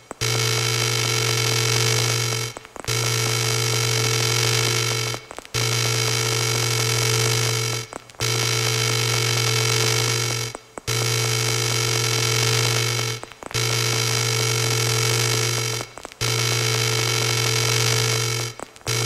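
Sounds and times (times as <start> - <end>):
buzzing synthesizer drone: 0.0 - 19.0.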